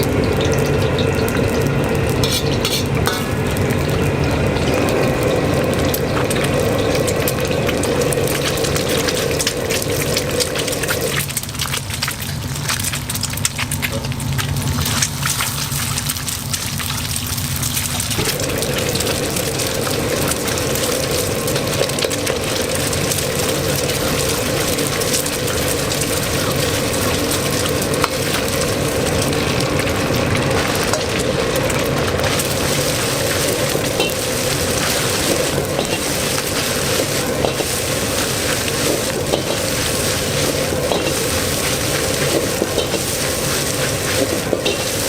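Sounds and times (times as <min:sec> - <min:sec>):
food sizzling on a stove: 0:00.0 - 0:45.0.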